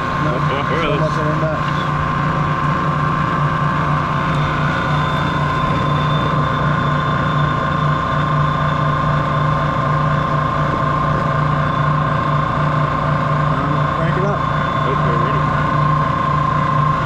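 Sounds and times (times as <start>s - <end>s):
faint high whine: 0.0s - 17.0s
mixer motor hum and whine: 0.0s - 17.0s.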